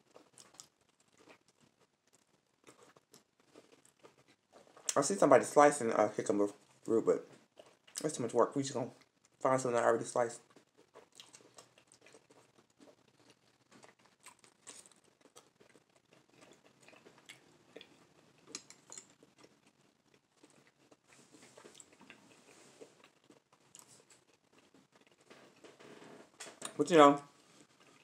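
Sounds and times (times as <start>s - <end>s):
close-up chewing: 0.0s - 5.0s, 6.6s - 8.1s, 10.4s - 25.8s, 27.3s - 28.0s.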